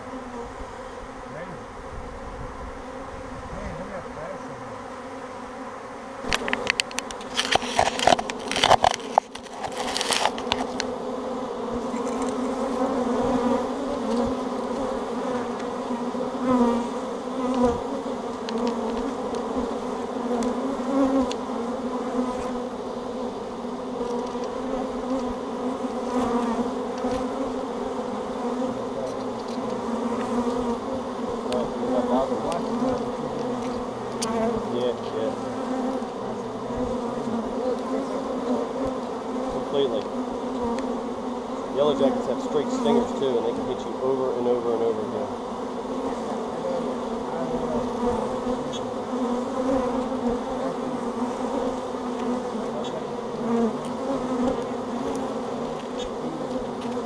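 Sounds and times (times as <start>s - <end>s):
honey bee swarm buzzing: 0.0s - 57.0s.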